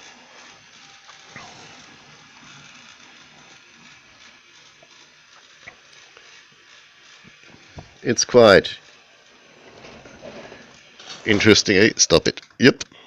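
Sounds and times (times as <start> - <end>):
toy train motor and gears running: 0.0 - 13.0.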